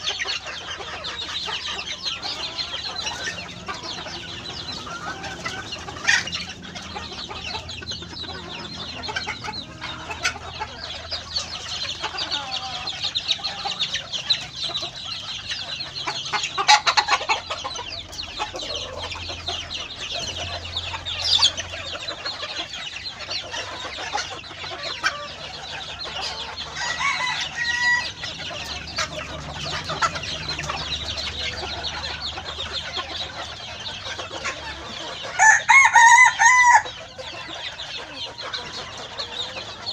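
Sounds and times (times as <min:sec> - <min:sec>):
hens clucking: 0:00.0 - 0:39.9
louder chicken calls: 0:00.0 - 0:39.9.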